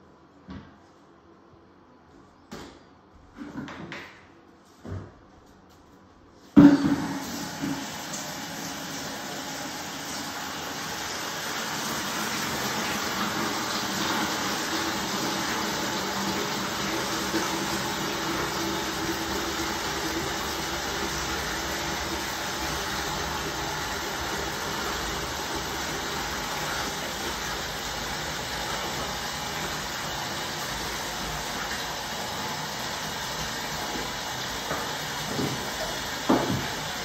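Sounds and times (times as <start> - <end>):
faucet water splashing into bucket: 7.1 - 37.0.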